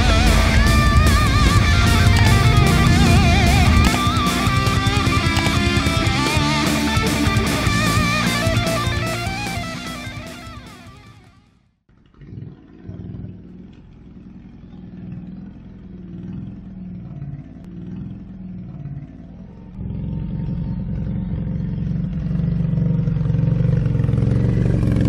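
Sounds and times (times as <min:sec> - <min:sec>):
atv engine revving: 0:00.0 - 0:11.3, 0:12.2 - 0:25.0.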